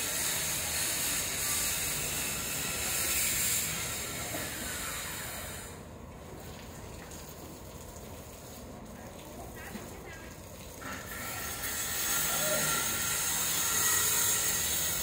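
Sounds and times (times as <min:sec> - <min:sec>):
hose spraying on tiled floor: 0:00.0 - 0:15.0.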